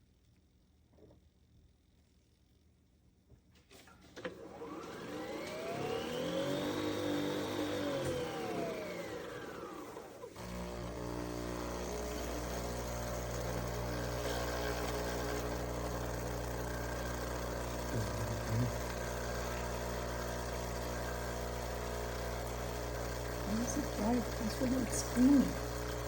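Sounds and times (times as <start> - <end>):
coffee machine mechanical hum: 4.2 - 26.0
coffee machine whine: 4.2 - 26.0.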